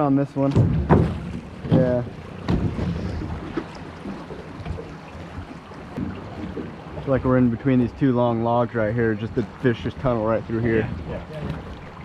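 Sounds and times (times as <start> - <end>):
wind buffeting microphone: 0.5 - 12.0.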